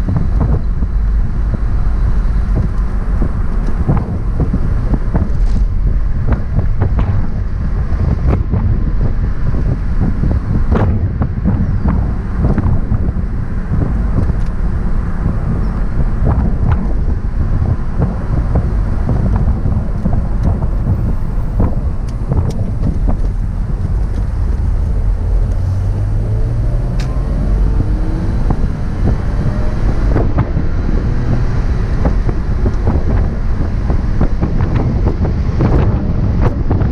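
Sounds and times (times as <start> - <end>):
car engine droning: 0.0 - 36.9
wind buffeting microphone: 0.0 - 36.9.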